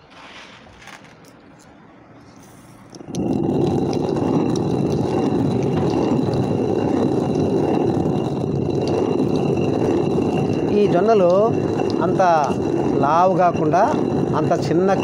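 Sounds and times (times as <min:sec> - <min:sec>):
stone hand mill grinding grain: 0:02.9 - 0:15.0.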